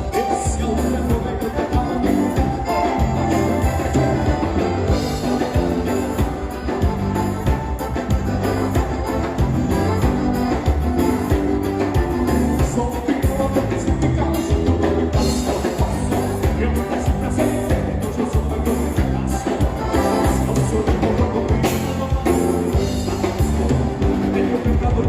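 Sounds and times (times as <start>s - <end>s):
band music with drums and bass: 0.0s - 25.0s.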